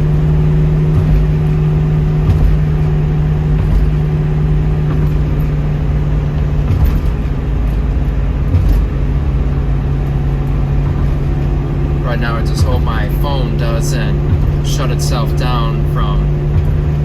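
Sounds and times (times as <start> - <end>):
car engine cruising: 0.0 - 17.0
road noise: 0.0 - 17.0.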